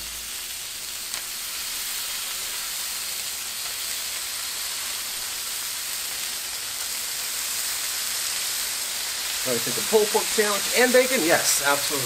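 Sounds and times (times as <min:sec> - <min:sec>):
bacon sizzling on a griddle: 0:00.0 - 0:12.0.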